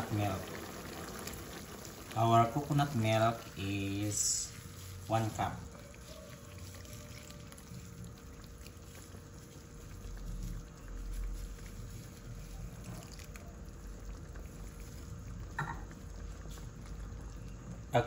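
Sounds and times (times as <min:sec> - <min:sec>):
liquid trickling into a pan: 0:00.0 - 0:18.0.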